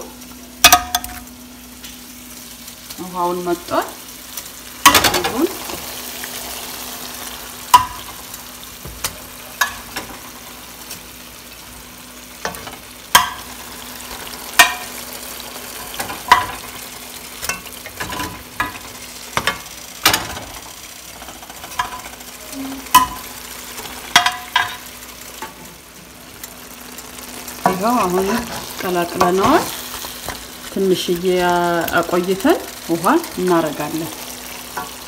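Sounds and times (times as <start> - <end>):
chicken sizzling in a frying pan: 0.0 - 35.0.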